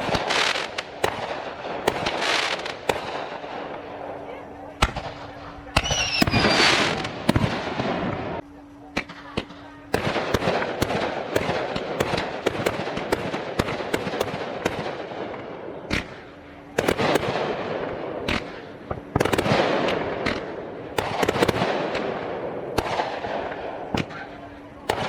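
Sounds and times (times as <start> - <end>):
fireworks bangs: 0.0 - 8.4, 9.0 - 25.0
fireworks crackling: 0.0 - 25.0.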